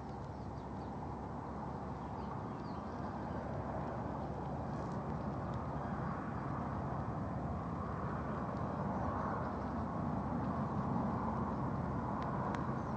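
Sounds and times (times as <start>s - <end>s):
outdoor background noise: 0.0s - 12.9s.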